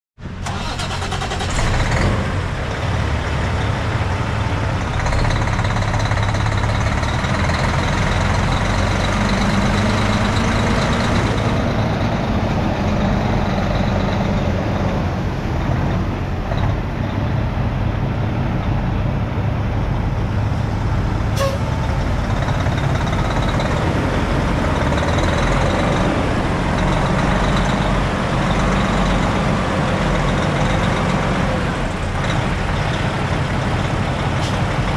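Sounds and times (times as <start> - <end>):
diesel truck engine idling: 0.2 - 34.9.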